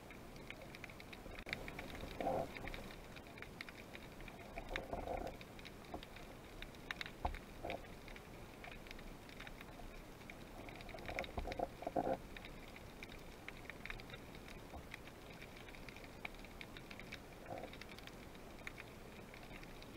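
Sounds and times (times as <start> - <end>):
underwater crackling clicks: 0.0 - 19.9.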